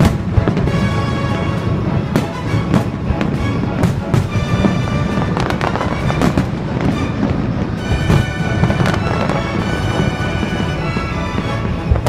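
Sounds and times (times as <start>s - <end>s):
fireworks bangs and crackles: 0.0s - 12.0s
music with long held notes: 0.0s - 12.0s.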